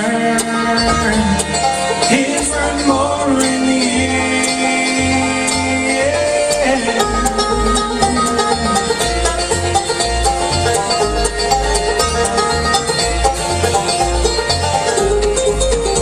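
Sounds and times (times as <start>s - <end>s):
banjo picking: 0.0s - 16.0s
bluegrass band playing: 0.0s - 16.0s
fiddle: 0.0s - 16.0s.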